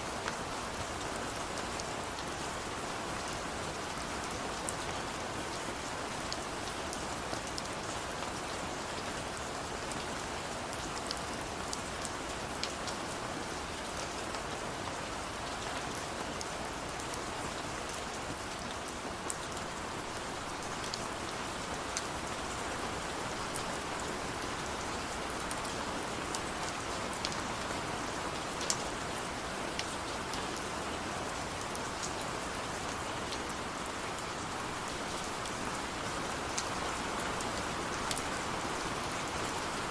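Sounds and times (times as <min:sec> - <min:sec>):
rain pattering: 0:00.1 - 0:39.9.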